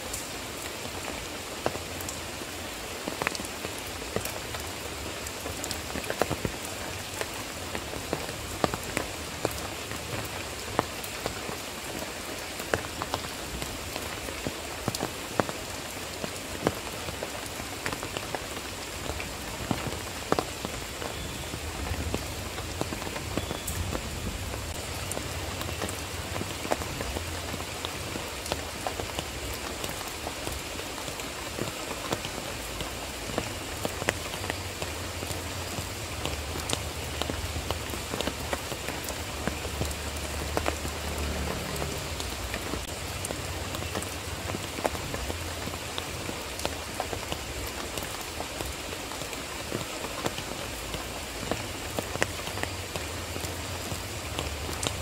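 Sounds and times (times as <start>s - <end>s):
rain falling on foliage: 0.0s - 55.0s
raindrops striking sharply: 0.0s - 55.0s.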